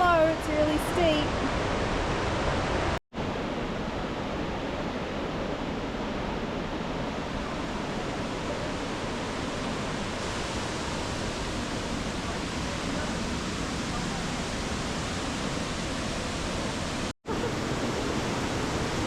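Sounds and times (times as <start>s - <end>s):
waterfall roaring: 0.1s - 19.0s.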